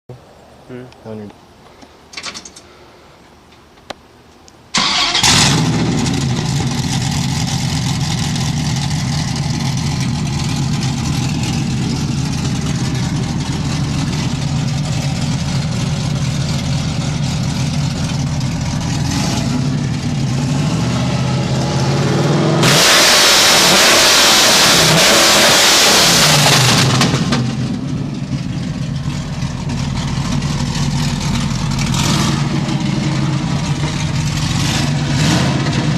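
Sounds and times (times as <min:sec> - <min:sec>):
loud truck engine idling and revving: 0:04.8 - 0:35.9.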